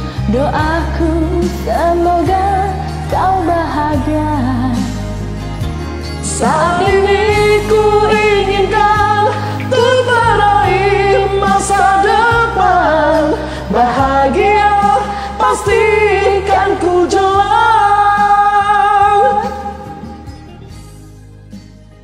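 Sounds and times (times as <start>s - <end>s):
woman singing: 0.0s - 5.2s, 6.2s - 20.4s
karaoke backing track: 0.0s - 22.0s.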